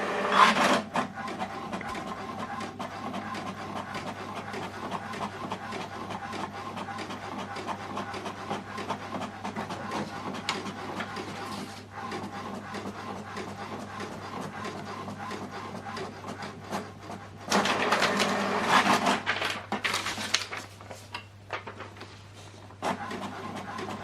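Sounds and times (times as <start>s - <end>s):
inkjet printer printing: 0.0s - 20.5s, 22.5s - 24.0s.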